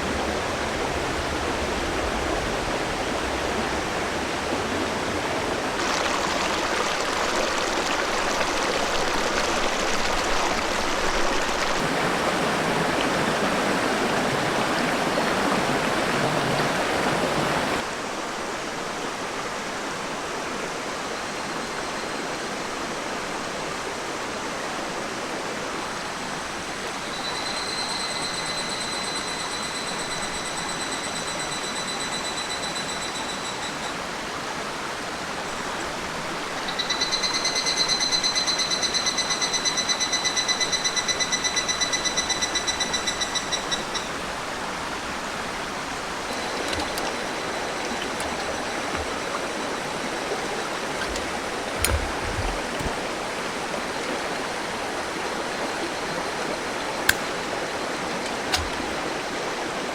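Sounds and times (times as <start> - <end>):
river water running: 0.0 - 28.4, 33.6 - 38.3, 40.6 - 59.9.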